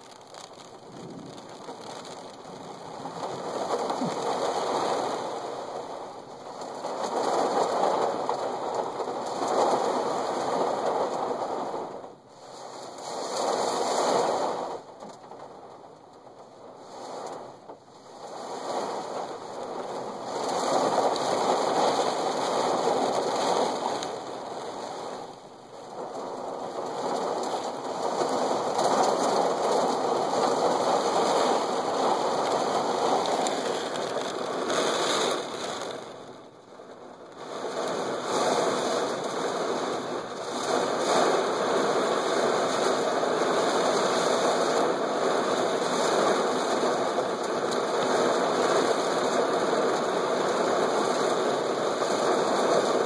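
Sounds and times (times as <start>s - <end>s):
gusty wind: 0.0s - 53.0s
heavy rain pouring: 0.0s - 53.0s.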